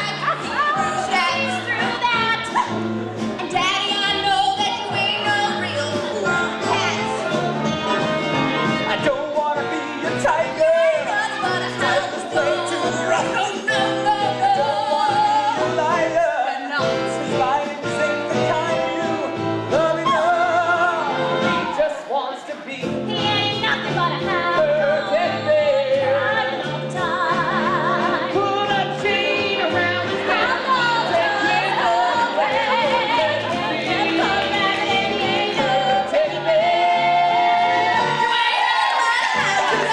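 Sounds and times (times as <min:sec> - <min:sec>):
rock and roll band: 0:00.0 - 0:39.9.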